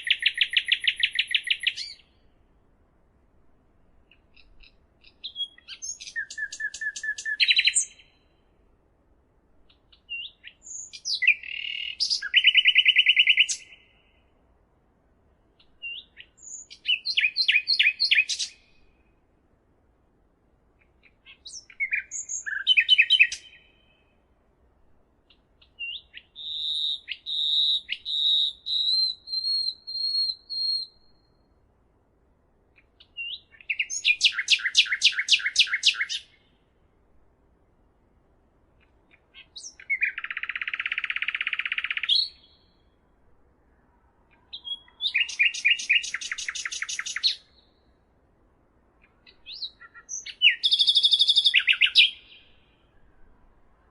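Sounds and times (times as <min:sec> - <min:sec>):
songbird chirps and trills: 0:00.0 - 0:53.9.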